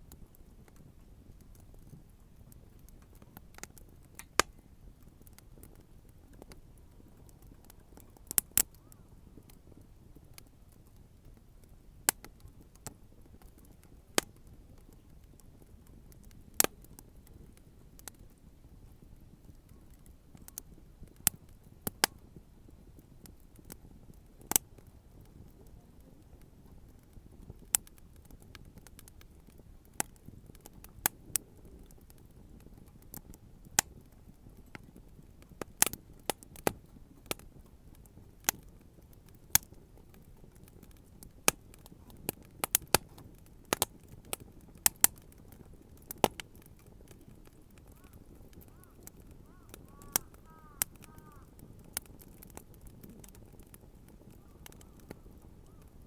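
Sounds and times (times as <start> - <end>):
bonfire crackling and popping: 0.0 - 56.0.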